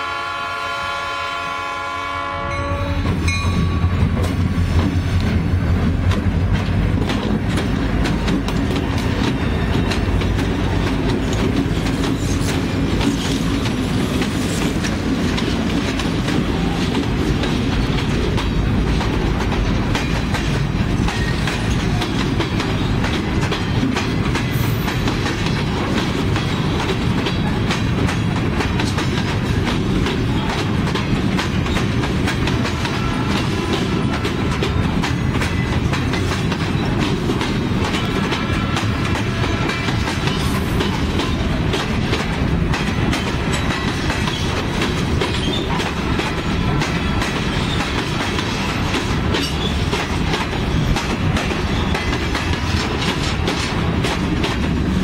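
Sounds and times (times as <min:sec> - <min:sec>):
diesel locomotive engines droning: 0:00.0 - 0:55.0
freight train rumble: 0:00.0 - 0:55.0
wheels clacking over rail joints: 0:03.0 - 0:55.0.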